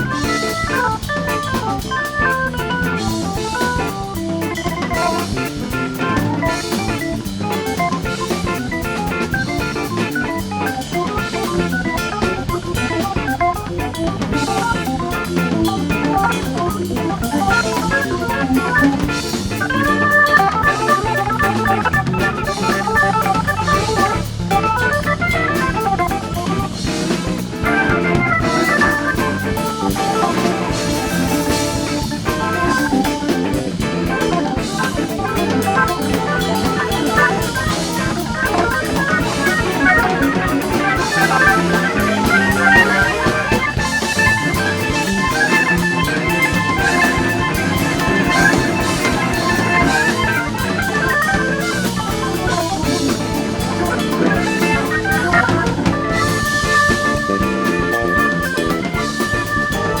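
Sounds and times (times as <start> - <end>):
drum kit: 0.0 - 60.0
electric guitar lead: 0.0 - 60.0
organ: 0.0 - 60.0.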